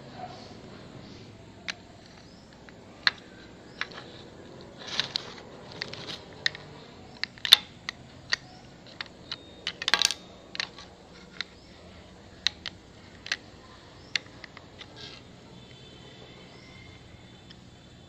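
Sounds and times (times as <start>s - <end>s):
crackling rustle: 0.0s - 18.0s
small hard objects clicking: 1.4s - 18.0s.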